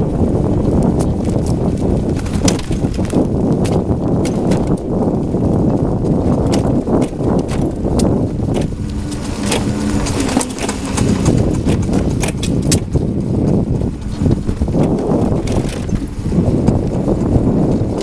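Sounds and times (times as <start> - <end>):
scooter drive banging and ticking: 0.0 - 18.0
wind on microphone: 0.0 - 18.0.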